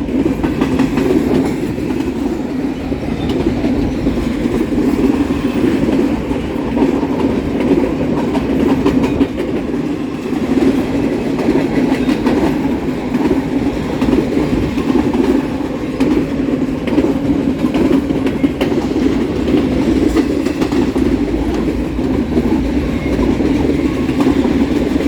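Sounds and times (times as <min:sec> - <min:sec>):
freight train wheels rumbling: 0:00.0 - 0:25.0
wheels clicking over rail joints: 0:00.0 - 0:25.0.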